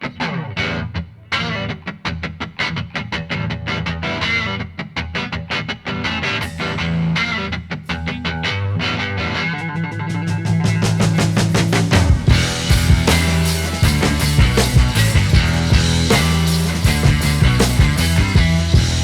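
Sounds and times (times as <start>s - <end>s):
rock music with picked guitar: 0.0s - 19.0s.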